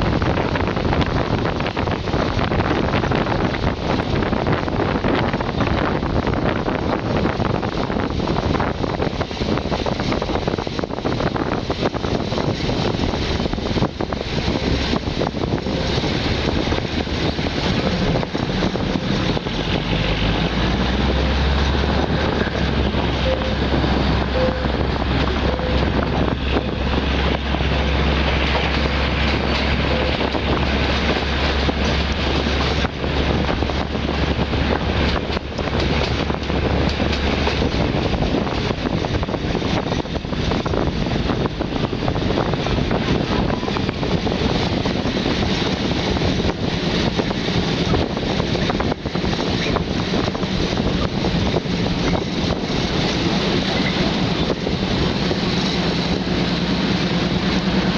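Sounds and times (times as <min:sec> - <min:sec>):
carriages rolling on rails: 0:00.0 - 0:57.9
train engine hum: 0:00.0 - 0:57.9.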